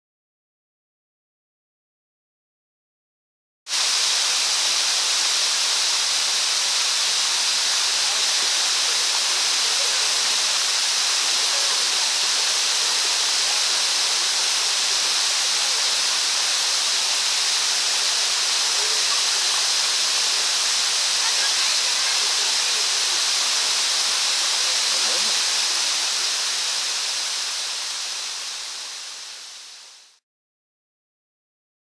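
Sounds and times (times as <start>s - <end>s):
waterfall rushing: 3.7s - 30.2s.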